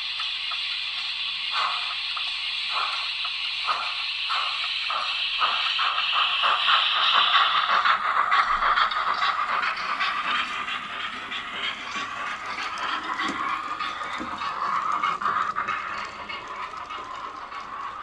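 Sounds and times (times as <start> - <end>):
model train steam chuffs: 0.0 - 18.0
steady steam hiss: 0.0 - 18.0.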